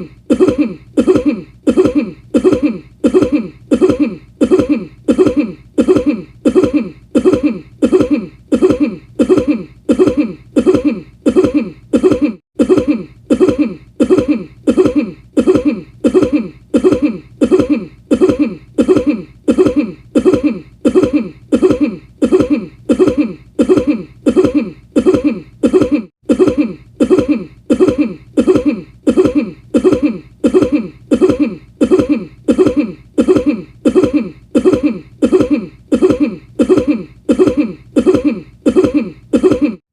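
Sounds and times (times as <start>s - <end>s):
person coughing: 0.0s - 39.8s.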